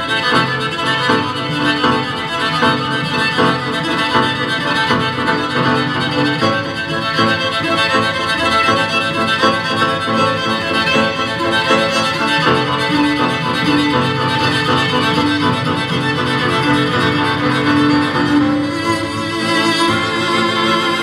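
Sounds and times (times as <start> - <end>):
piano violin and cello trio: 0.0 - 21.0.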